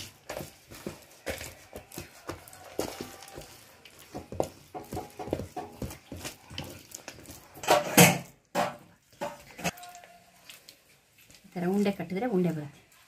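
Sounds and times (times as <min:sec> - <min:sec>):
stirring and scraping in steel bowl: 0:00.0 - 0:13.0.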